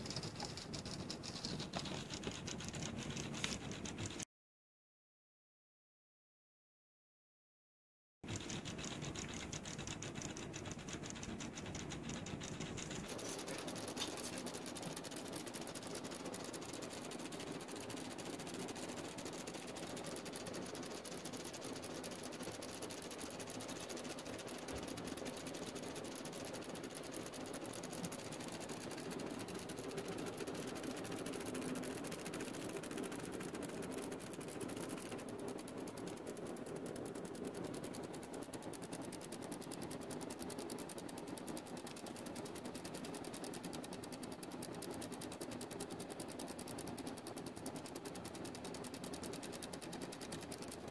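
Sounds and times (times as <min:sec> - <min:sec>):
clock movement whirring and ticking: 0:00.0 - 0:04.3, 0:08.2 - 0:50.9.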